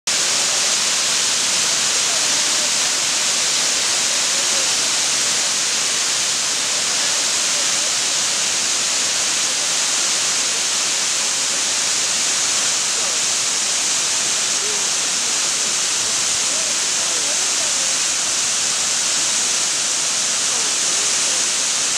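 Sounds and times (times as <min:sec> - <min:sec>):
waterfall rushing: 0:00.1 - 0:21.9.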